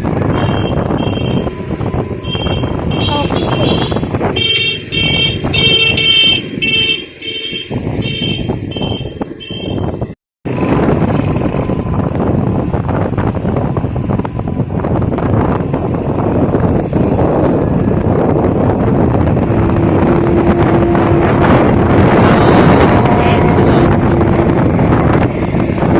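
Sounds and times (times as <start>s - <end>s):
wind on microphone: 0.0s - 25.9s.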